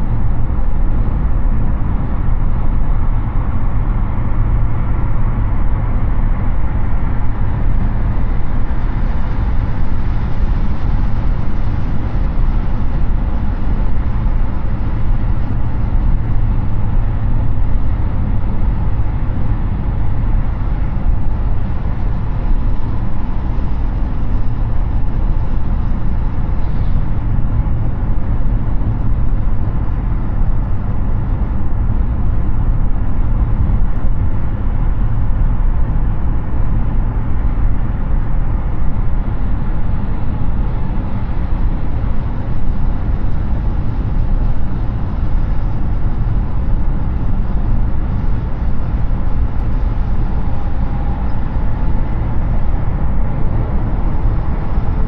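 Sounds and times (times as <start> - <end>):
car tyre roar and wind noise: 0.0 - 55.0.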